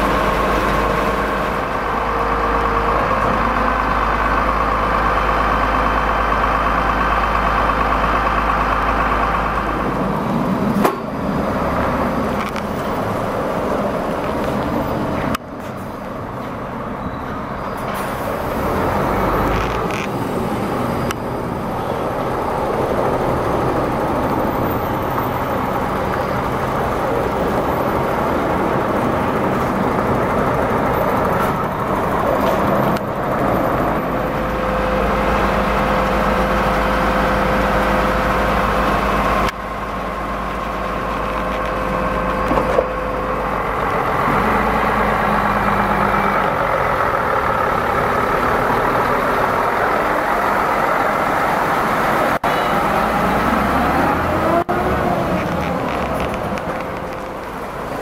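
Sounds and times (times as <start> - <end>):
truck diesel engines rumbling: 0.0 - 58.0.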